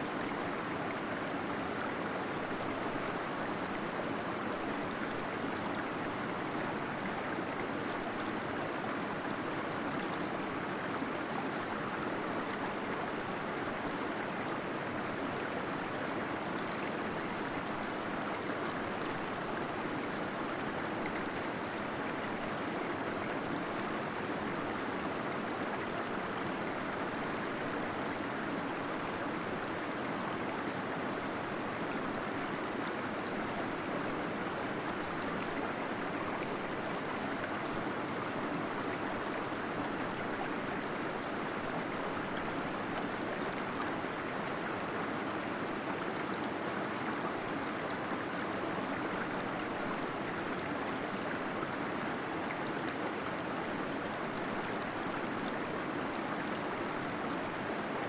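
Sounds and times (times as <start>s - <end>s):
small waterfall flowing: 0.0s - 58.0s.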